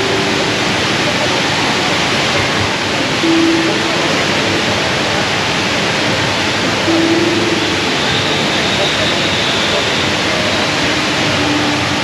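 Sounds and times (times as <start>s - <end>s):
indoor waterfall rushing: 0.0s - 12.0s.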